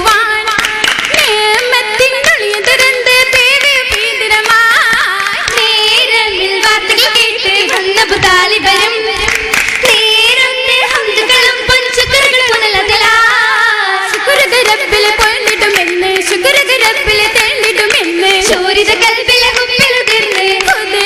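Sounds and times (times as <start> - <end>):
rhythmic hand-clapping: 0.0 - 21.0
women singing: 0.0 - 21.0.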